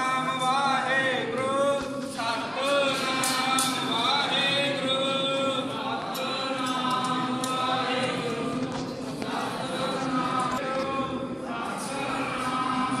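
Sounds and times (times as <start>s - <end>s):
men chanting: 0.0s - 8.6s, 9.2s - 13.0s.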